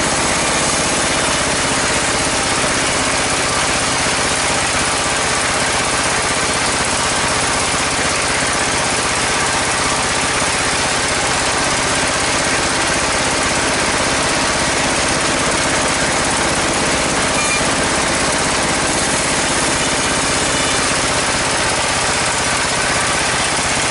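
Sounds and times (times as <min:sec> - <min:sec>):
sawmill bandsaw running: 0:00.0 - 0:23.9.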